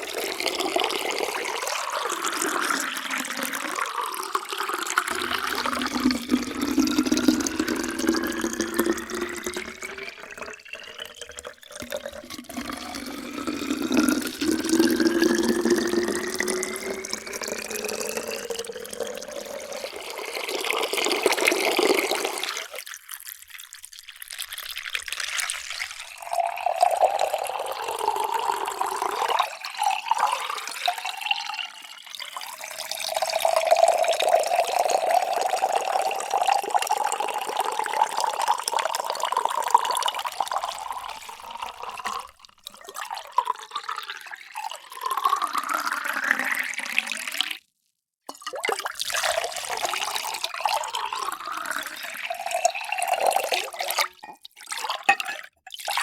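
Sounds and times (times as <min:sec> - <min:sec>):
water poured into a vessel: 0:00.0 - 0:56.0.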